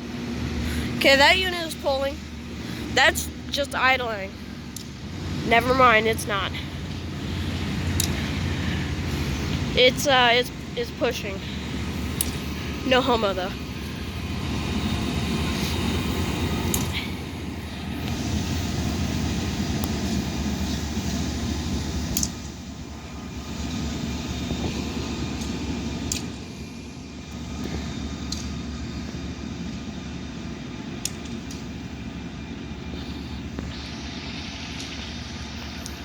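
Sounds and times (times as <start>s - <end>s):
diesel locomotive engine drone: 0.0s - 36.0s.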